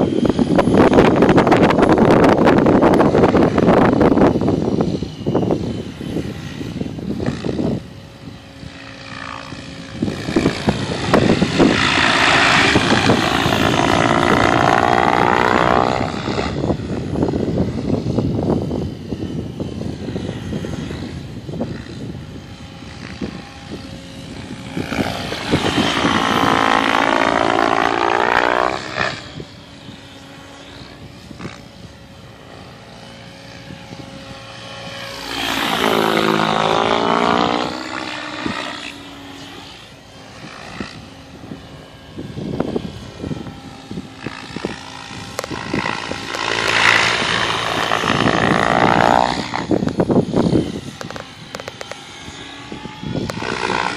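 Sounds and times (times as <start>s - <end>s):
radio-controlled helicopter flying: 0.0s - 53.9s.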